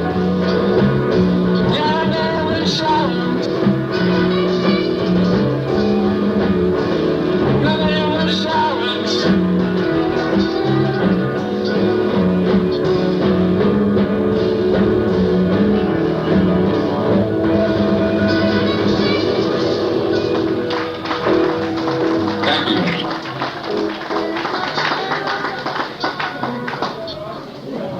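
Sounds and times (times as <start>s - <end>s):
rock band playing: 0.0s - 26.9s.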